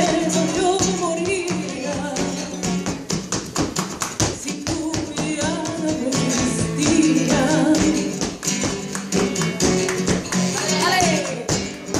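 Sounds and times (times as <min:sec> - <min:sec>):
dancer's footwork taps: 0:00.0 - 0:11.9
guitar: 0:00.0 - 0:11.9.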